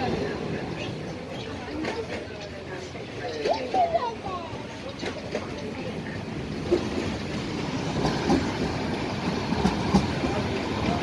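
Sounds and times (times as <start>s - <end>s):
train wheels clattering over rails: 0.0s - 4.0s, 4.6s - 11.0s.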